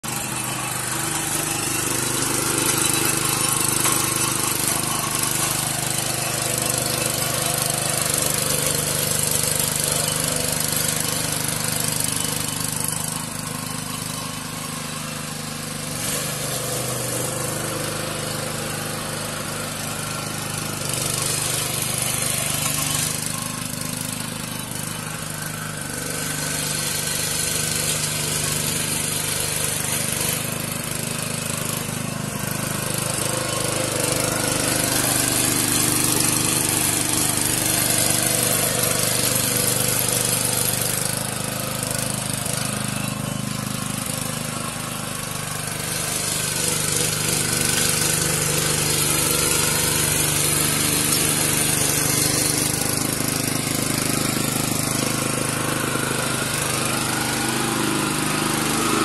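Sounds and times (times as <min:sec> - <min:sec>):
small petrol engine running: 0:00.0 - 0:59.0
tines churning soil: 0:00.0 - 0:59.0.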